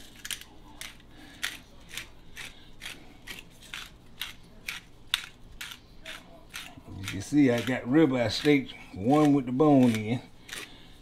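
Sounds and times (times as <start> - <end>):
pepper mill grinding: 0.0 - 11.0.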